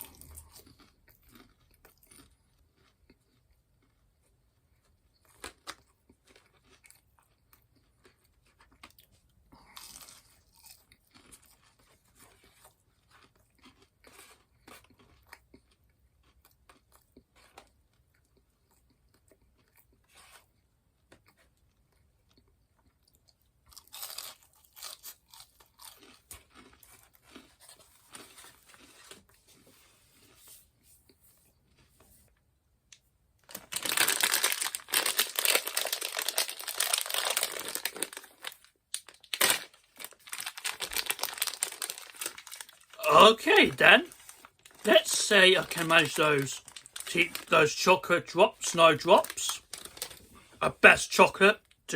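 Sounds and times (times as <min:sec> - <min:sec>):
person chewing crunchy food: 0:00.0 - 0:30.5, 0:33.5 - 0:50.8.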